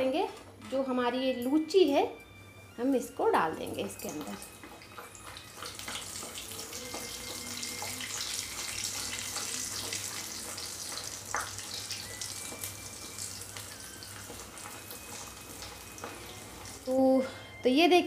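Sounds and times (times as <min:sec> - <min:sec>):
puri sizzling in hot oil: 0:02.9 - 0:17.6.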